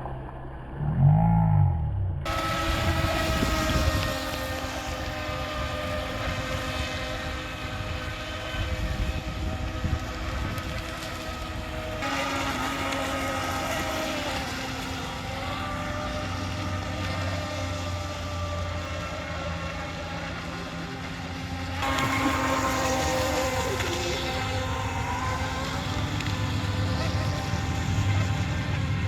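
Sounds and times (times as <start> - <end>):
electric motor whining: 2.2 - 29.0.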